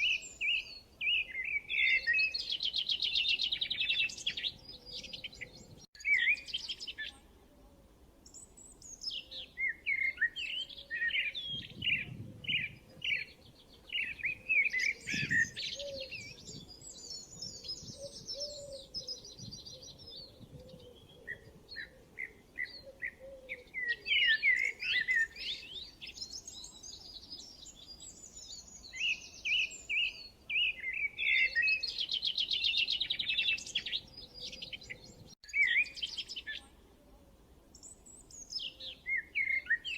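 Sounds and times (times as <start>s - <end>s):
songbirds chirping and singing: 0.0s - 7.6s, 8.2s - 36.8s, 37.6s - 39.9s.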